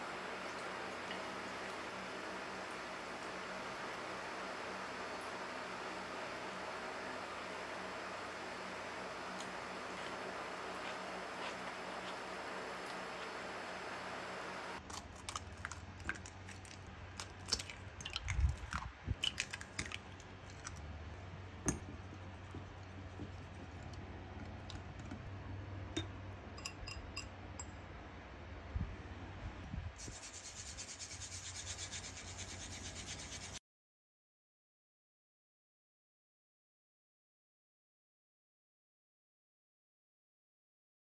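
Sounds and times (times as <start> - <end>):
steady low hum: 0.0 - 33.6.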